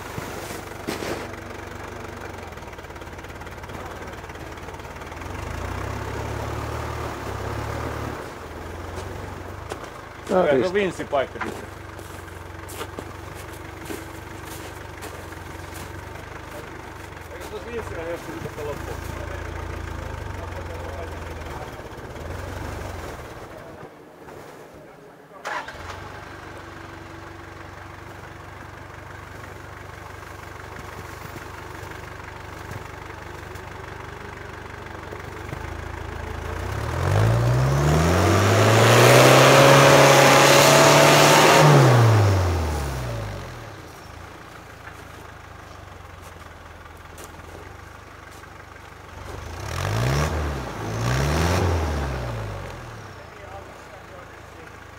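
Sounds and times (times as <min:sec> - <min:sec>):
car engine idling and revving: 0:00.0 - 0:24.2, 0:25.5 - 0:54.9.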